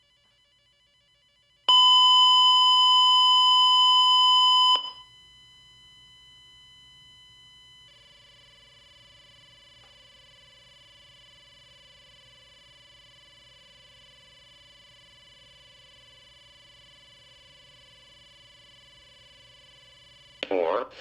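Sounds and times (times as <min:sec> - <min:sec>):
faint electronic whine and hum: 0:00.0 - 0:20.8.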